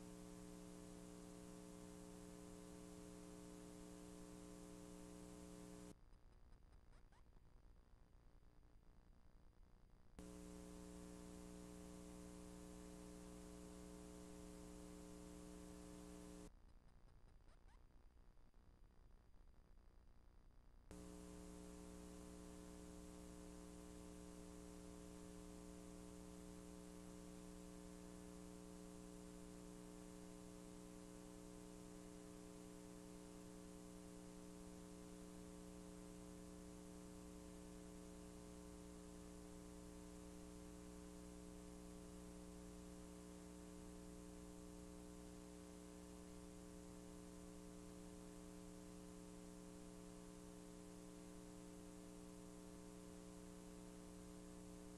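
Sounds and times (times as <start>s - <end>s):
electrical mains hum: 0.0s - 6.0s, 10.0s - 16.6s, 20.8s - 54.9s.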